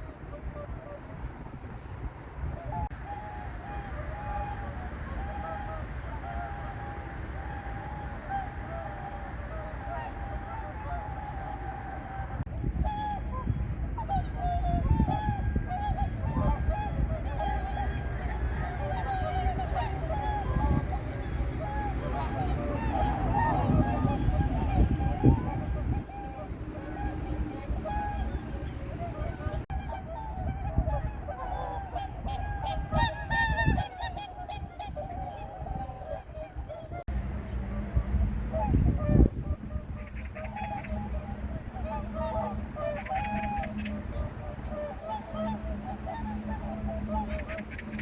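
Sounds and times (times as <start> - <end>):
swans honking: 0.0 - 48.0.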